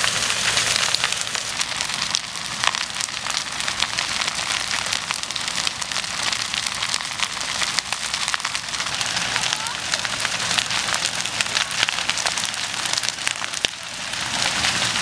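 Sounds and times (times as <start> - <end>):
hiss of flame: 0.0 - 15.0
timbers crackling and popping: 0.0 - 15.0.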